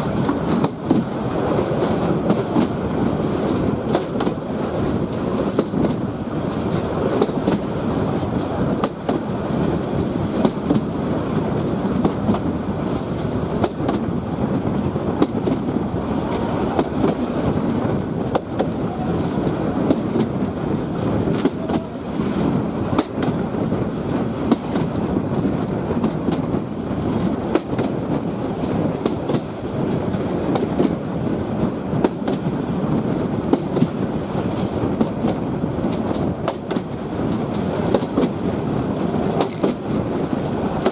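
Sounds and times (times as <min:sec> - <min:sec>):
train rumbling on rails: 0:00.0 - 0:40.9
wheels clicking and rattling: 0:00.0 - 0:40.9.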